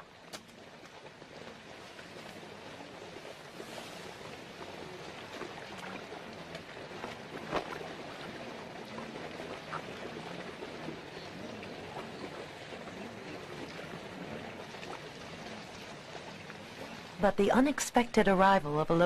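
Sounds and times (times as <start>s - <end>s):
water splashing in a pond: 0.0s - 18.9s.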